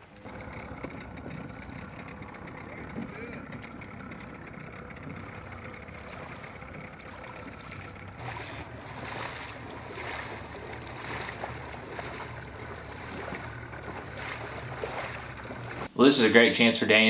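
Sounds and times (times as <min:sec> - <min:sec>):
water sloshing and splashing: 0:00.0 - 0:16.0
low hum: 0:00.0 - 0:16.3.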